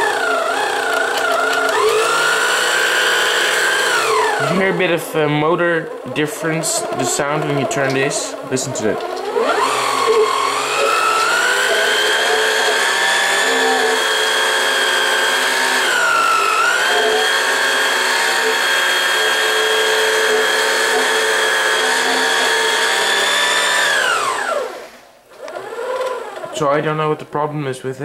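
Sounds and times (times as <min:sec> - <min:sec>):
electric motor whining: 0:00.0 - 0:26.6.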